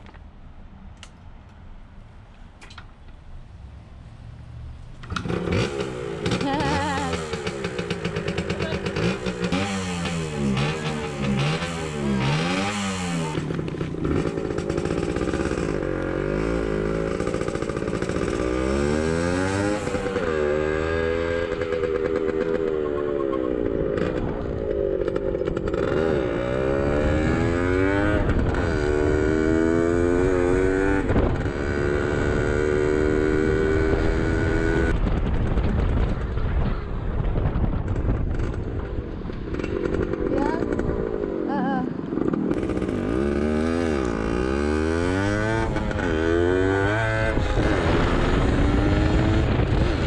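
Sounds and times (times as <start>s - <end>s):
two-stroke motorcycle engine: 5.0s - 36.7s, 37.8s - 50.0s.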